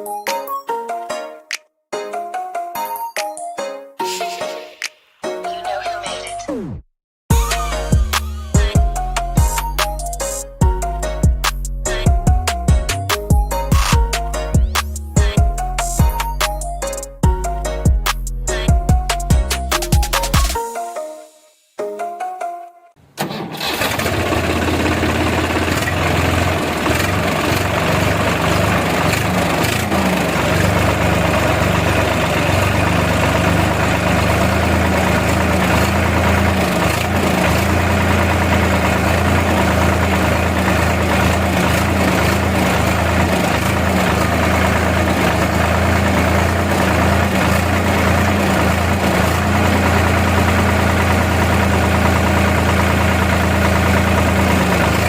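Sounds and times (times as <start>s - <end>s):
tractor engine idling: 7.3s - 20.6s, 23.0s - 55.0s.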